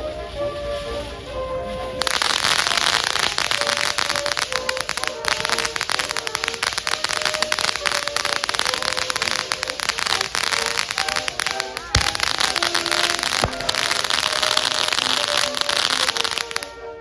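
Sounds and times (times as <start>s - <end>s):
firework crackling: 2.0s - 17.0s.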